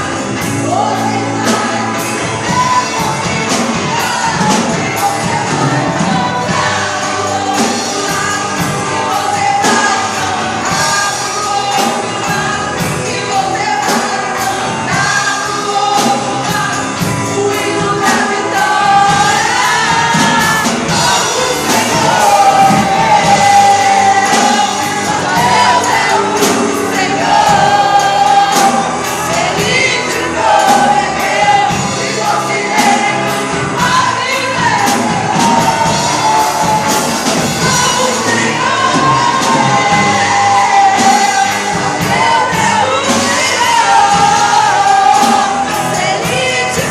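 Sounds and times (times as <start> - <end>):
band playing a steady beat: 0.0 - 46.9
group of voices singing: 0.0 - 46.9.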